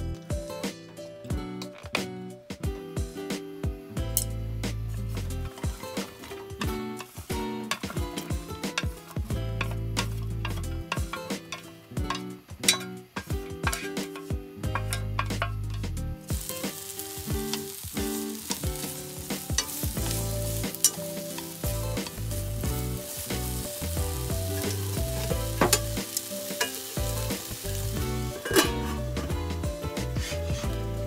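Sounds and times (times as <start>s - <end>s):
food sizzling in a pan: 5.2s - 31.0s.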